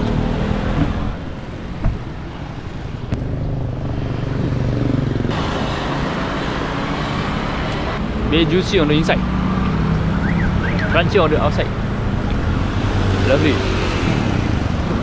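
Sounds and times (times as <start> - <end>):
vehicle engines running: 0.0 - 15.0.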